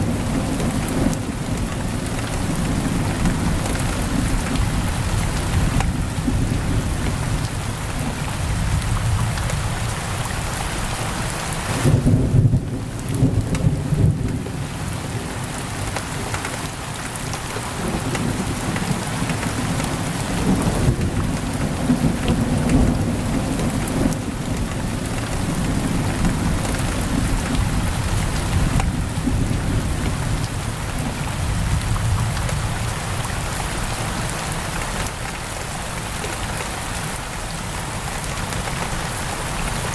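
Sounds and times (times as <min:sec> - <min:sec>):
heavy rain against window: 0:00.0 - 0:39.9.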